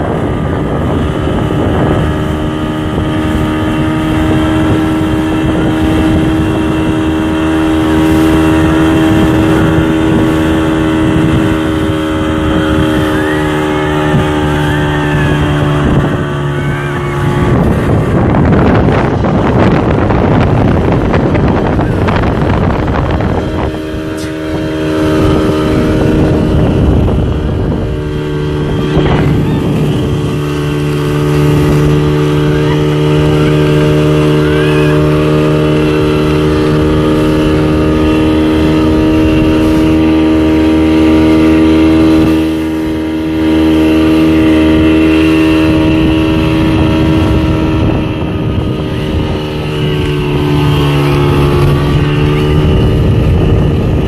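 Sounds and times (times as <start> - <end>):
rush of boat wake: 0.0 - 54.0
speedboat engine running: 0.0 - 54.0
wind: 0.0 - 54.0.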